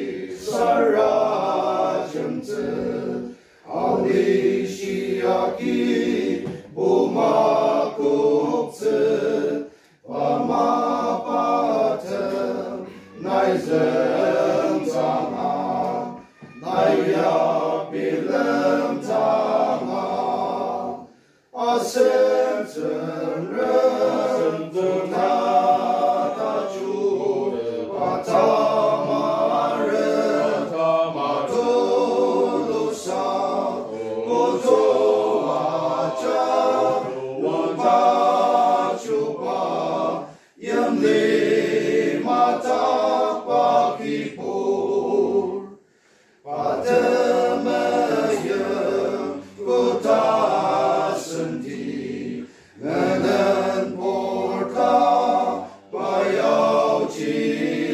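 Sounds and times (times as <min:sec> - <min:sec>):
men's group singing a hymn: 0:00.0 - 0:57.9.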